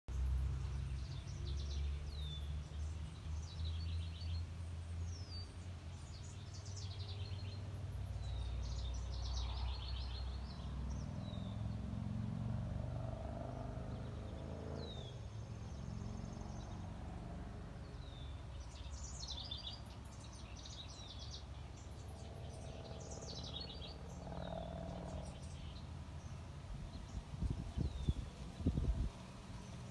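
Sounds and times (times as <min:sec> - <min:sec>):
songbirds chirping: 0:00.1 - 0:29.9.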